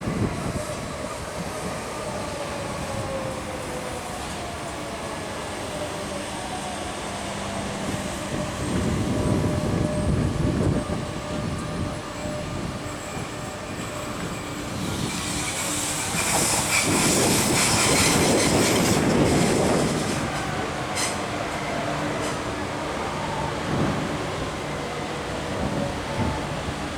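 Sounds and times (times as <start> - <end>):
train running on rails: 0.0 - 26.9.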